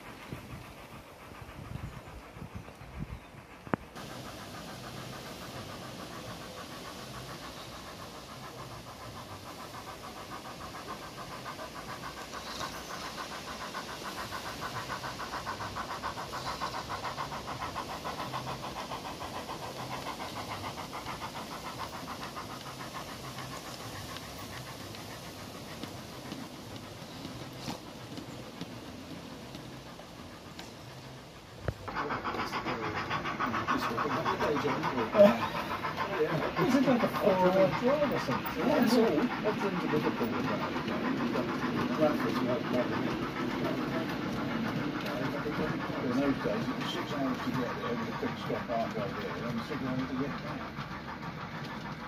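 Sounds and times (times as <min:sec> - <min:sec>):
model steam train running on track: 0:00.0 - 0:52.0.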